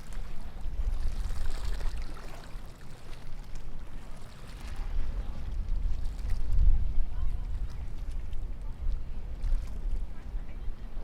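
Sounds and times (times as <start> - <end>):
low uneven rumble: 0.0 - 11.0.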